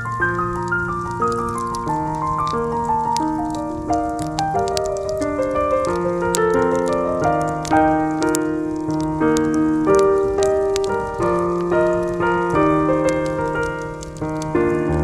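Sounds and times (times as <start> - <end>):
campfire crackling: 0.0 - 15.0
soft jazz piano chords: 0.0 - 15.0.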